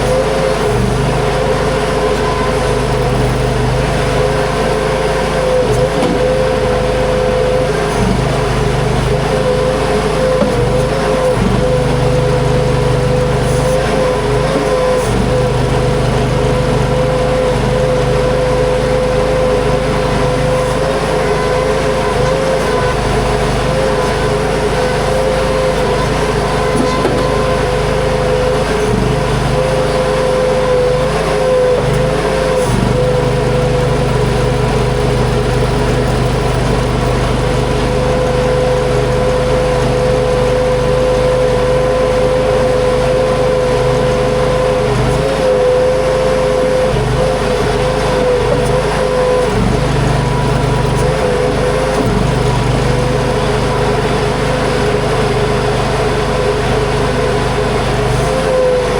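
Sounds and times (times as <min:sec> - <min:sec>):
skid steer engine running: 0:00.0 - 0:58.9.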